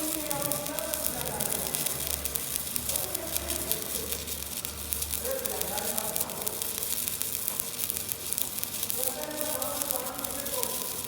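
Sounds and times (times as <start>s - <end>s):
arc welding crackling sizzle: 0.0s - 11.0s.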